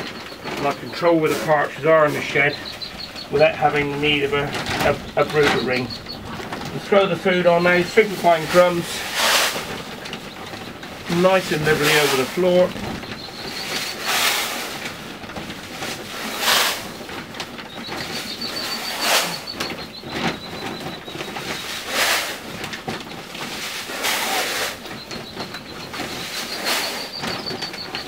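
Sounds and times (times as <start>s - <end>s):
feed pattering on paper: 0.0s - 28.0s.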